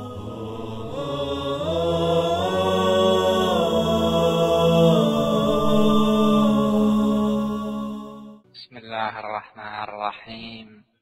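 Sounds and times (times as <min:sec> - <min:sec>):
chant-like vocal melody: 0:00.0 - 0:10.6.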